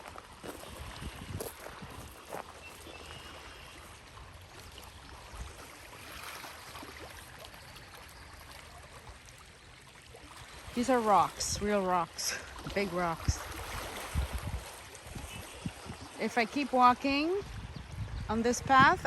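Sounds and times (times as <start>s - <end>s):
water trickling over rocks: 0.0s - 18.1s.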